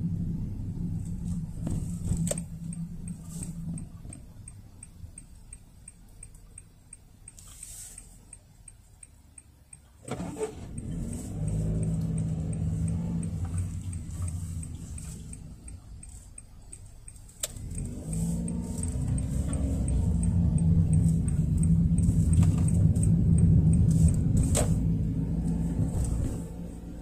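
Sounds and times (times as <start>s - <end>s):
car engine accelerating: 0.0s - 5.5s, 10.0s - 27.0s.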